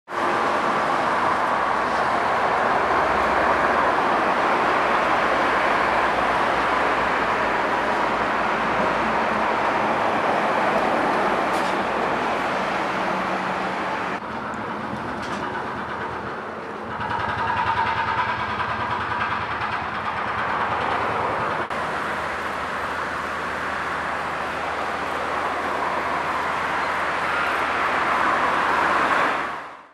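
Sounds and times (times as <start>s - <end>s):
construction machinery engines: 0.1s - 29.9s.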